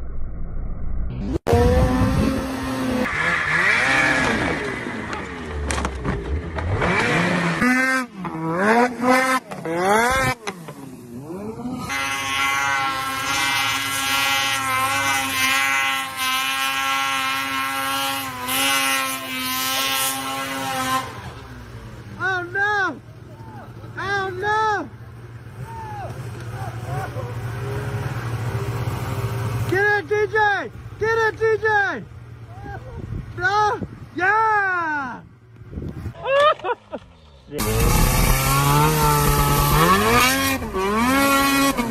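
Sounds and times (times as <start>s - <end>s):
snowmobile engines revving: 1.3s - 41.9s.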